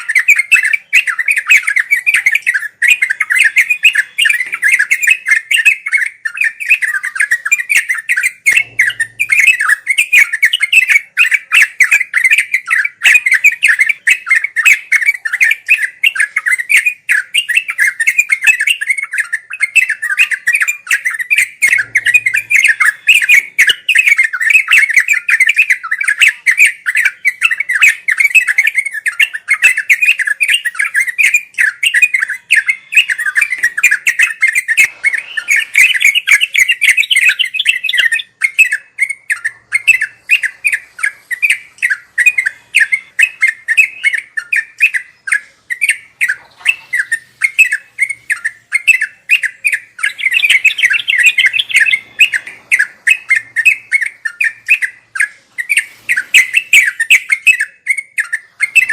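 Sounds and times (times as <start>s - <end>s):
bulbul chattering: 0.0s - 58.9s.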